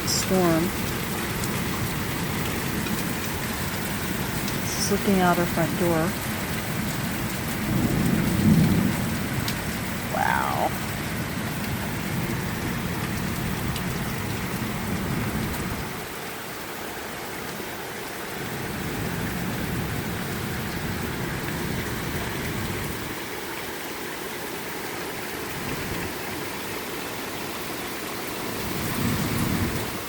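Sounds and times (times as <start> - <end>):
heavy rain and hail: 0.0 - 30.0.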